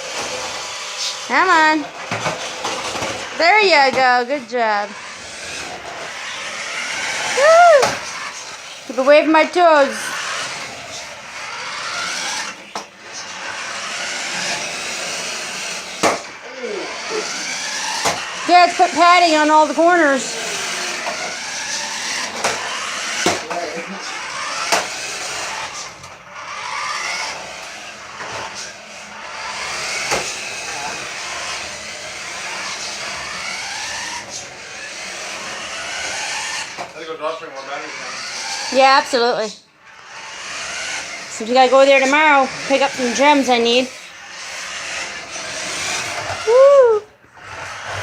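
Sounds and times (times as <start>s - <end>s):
toy car electric motors whining: 0.0s - 48.0s.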